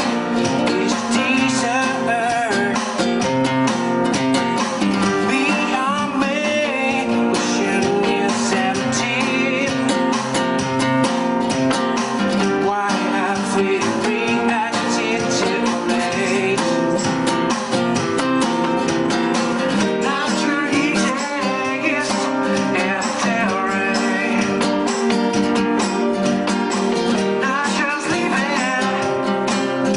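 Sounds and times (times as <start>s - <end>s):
person singing: 0.0s - 3.8s, 4.4s - 10.8s, 12.0s - 29.9s
strummed acoustic guitar: 0.0s - 29.9s.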